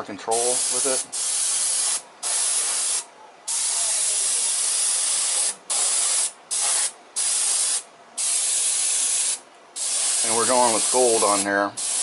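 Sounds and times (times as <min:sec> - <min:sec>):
airbrush spraying hiss: 0:00.3 - 0:12.0.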